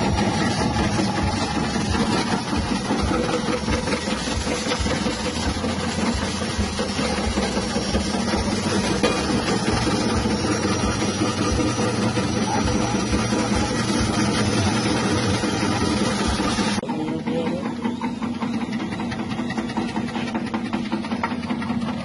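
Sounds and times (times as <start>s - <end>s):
slicing machine hum and clatter: 0.0s - 22.0s.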